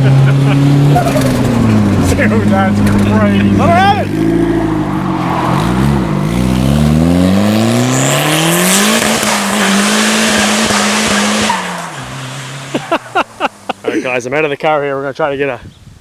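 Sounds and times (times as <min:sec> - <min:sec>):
turbocharged car engine pulling hard: 0:00.0 - 0:14.1.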